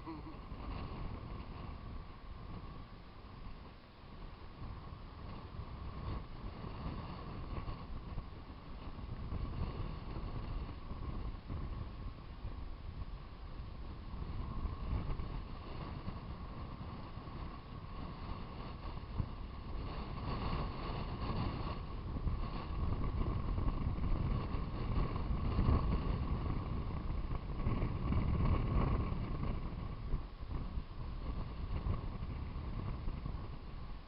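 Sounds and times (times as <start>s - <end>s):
wind buffeting on microphone: 0.0s - 34.0s.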